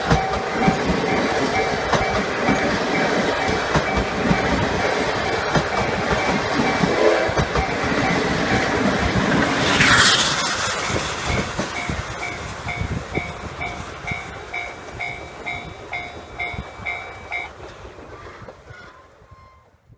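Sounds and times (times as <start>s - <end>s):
train wheels clicking over rails: 0.0s - 19.3s.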